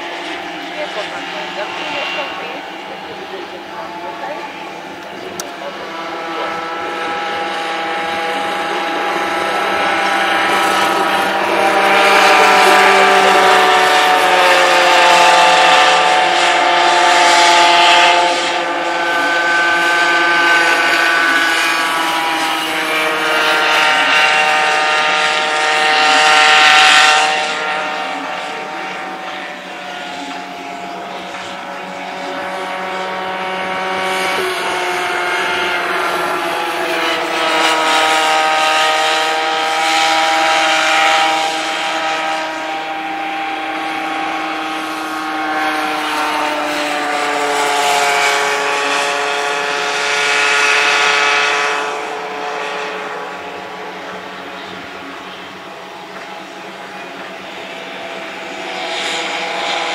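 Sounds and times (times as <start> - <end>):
kart engines whining: 0.0 - 59.9.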